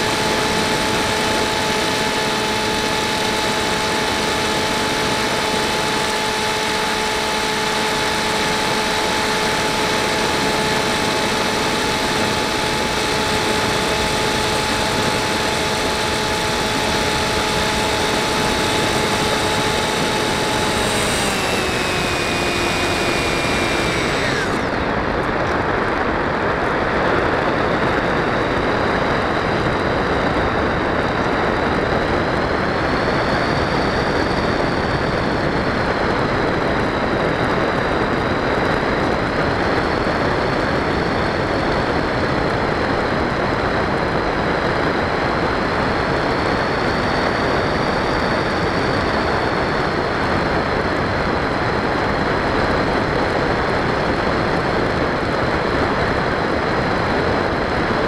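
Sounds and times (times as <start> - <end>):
model plane motor whining: 0.0 - 26.0, 28.8 - 58.0.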